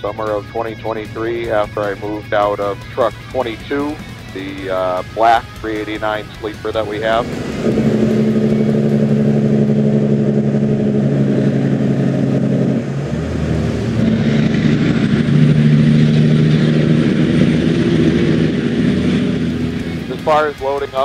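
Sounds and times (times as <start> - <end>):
diesel truck engine: 0.0 - 21.0.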